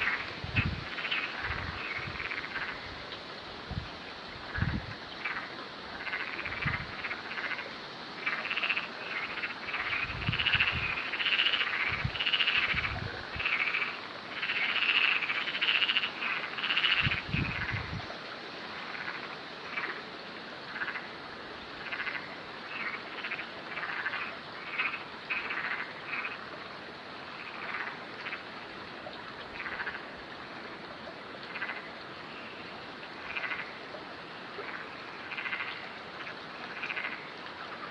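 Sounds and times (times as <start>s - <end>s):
frogs croaking: 0.0s - 37.9s.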